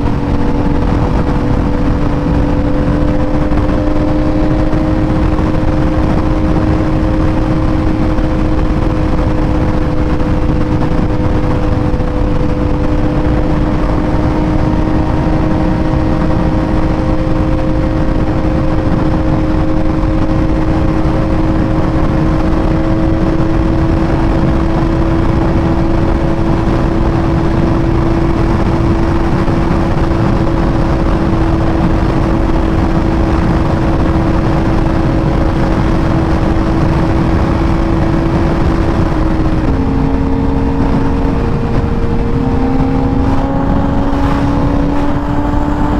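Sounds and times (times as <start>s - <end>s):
motorcycle engine cruising: 0.0s - 45.9s
wind and road noise: 0.0s - 45.9s.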